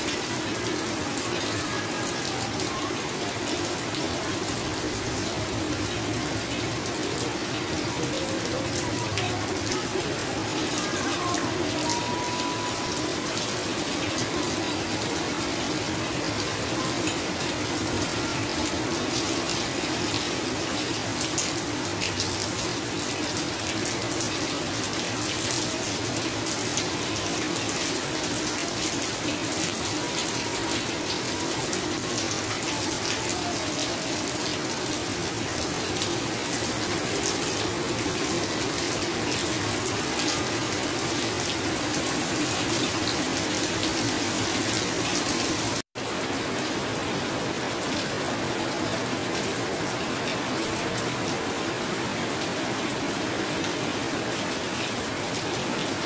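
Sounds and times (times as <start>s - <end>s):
heavy rain splashing into puddles: 0.0s - 56.0s
rain on tile and metal roofs: 0.0s - 56.0s.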